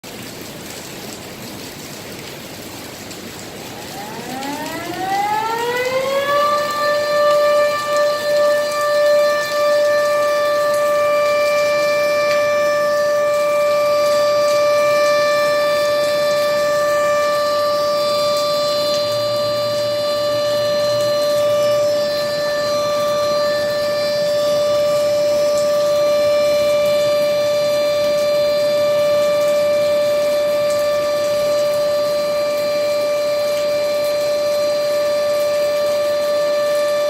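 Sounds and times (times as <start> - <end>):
warning siren wailing: 0.2 - 37.0.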